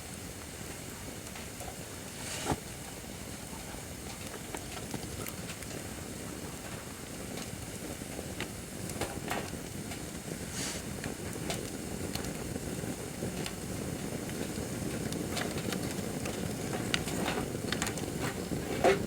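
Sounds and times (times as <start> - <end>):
firewood crackling and popping: 0.6 - 19.0.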